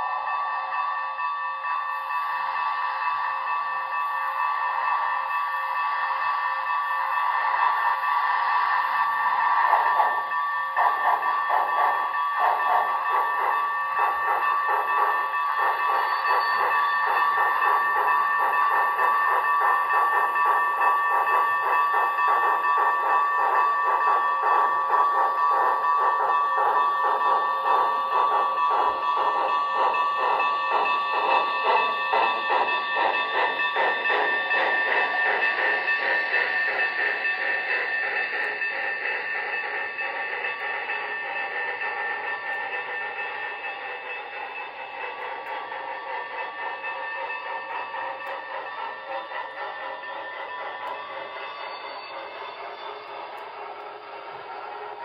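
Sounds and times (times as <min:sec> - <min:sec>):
model train chuffing: 0:00.0 - 0:55.0
model train wheel clatter: 0:09.4 - 0:55.0.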